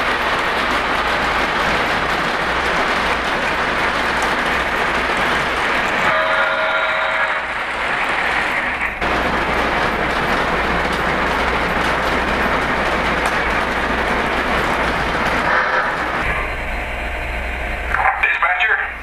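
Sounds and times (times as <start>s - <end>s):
model trains rolling on track: 0.0s - 19.0s.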